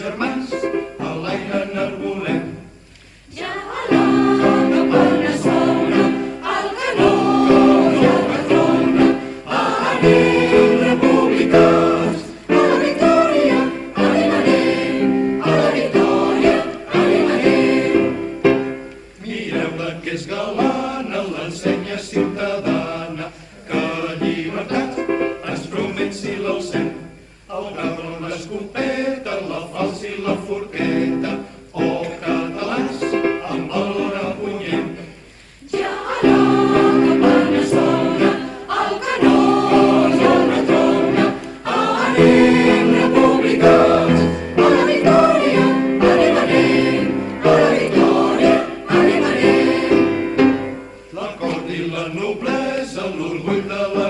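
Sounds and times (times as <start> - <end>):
choir singing an anthem: 0.0 - 2.7, 3.3 - 54.0.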